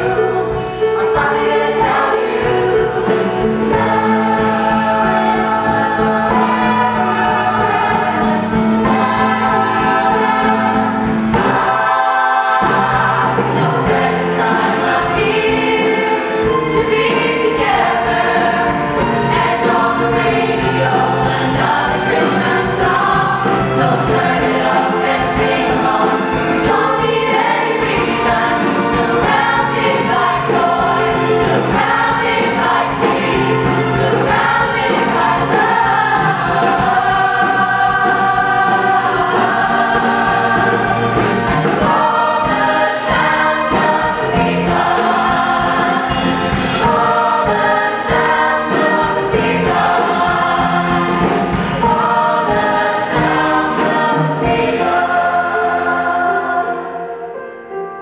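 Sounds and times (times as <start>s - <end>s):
mixed choir singing in harmony: 0.0s - 58.0s.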